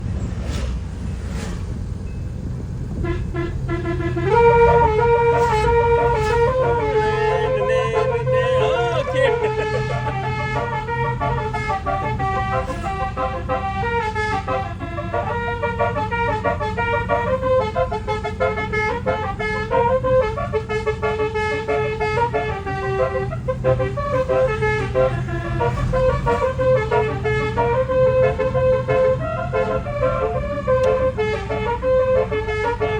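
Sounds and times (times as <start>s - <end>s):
air horn playing a tune: 2.9s - 32.9s.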